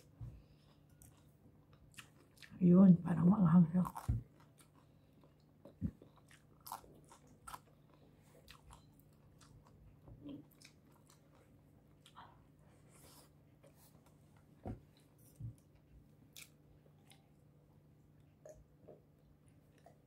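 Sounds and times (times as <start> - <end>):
soft crunches of chewing: 0.0 - 2.6, 3.8 - 20.0
faint low hum: 0.0 - 20.0.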